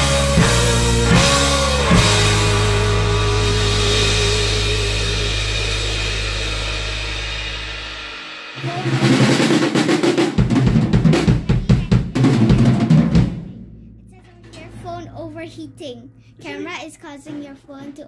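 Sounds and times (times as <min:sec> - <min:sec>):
drum kit fast roll: 0:00.0 - 0:15.6
bass drum: 0:00.0 - 0:16.8
rock backing track chord: 0:00.0 - 0:16.8.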